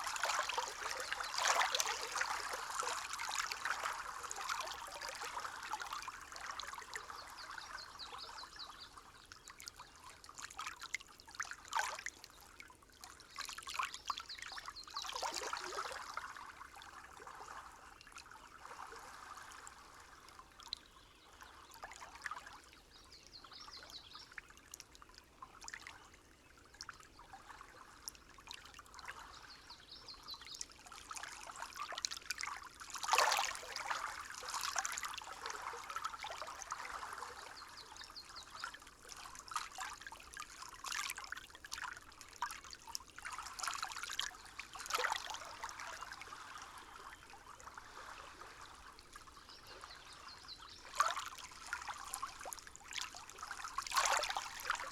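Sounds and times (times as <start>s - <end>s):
stream trickling and babbling: 0.0s - 54.9s.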